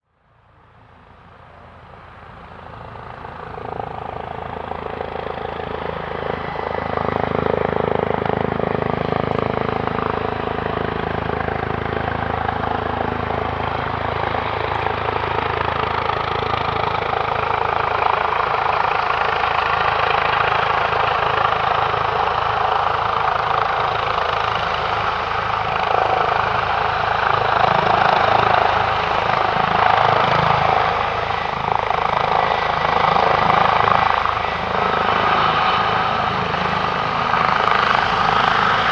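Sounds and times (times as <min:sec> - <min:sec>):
helicopter rotor and turbine: 0:00.1 - 0:38.9.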